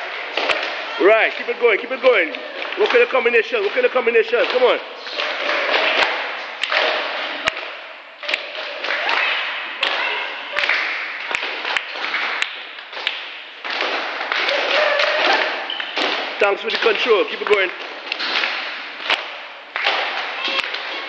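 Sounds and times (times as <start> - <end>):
people clapping: 0.0 - 21.0.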